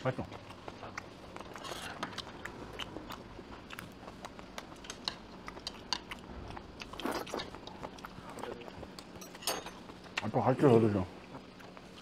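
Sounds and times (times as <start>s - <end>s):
faint steady hum: 0.0s - 12.0s
person chewing: 0.3s - 10.2s.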